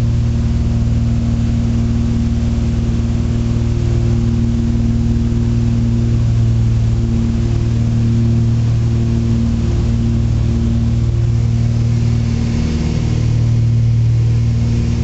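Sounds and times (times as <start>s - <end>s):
propeller engine drone: 0.0s - 15.0s.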